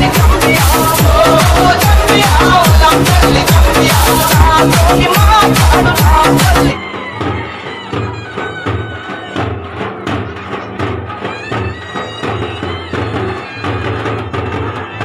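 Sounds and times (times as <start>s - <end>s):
drum beat: 0.0s - 15.0s.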